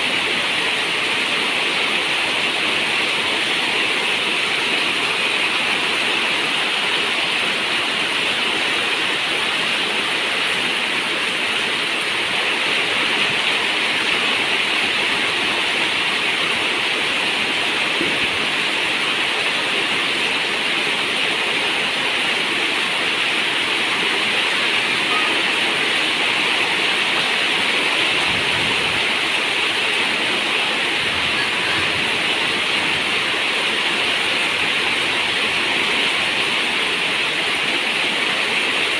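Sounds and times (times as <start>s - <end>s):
rain on a metal roof: 0.0s - 38.9s.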